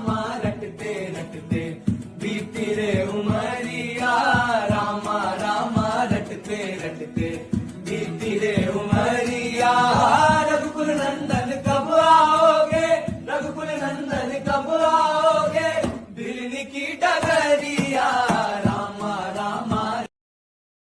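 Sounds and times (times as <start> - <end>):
devotional chant singing: 0.0 - 20.1
instrumental music with steady beat: 0.0 - 20.1.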